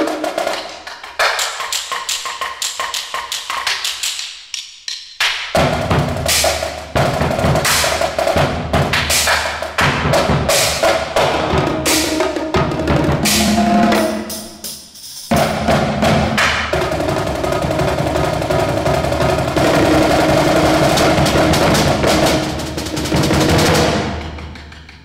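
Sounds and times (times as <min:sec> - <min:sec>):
drums playing: 0:00.0 - 0:04.2, 0:05.5 - 0:25.0.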